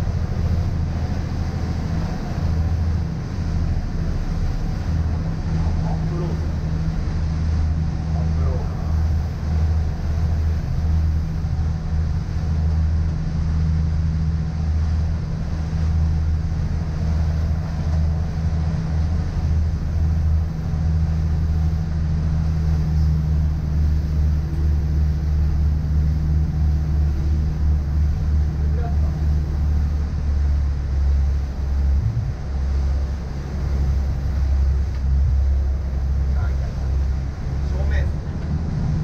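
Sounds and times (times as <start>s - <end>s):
boat engines droning: 0.0s - 39.0s
water and wind rushing: 0.0s - 39.0s.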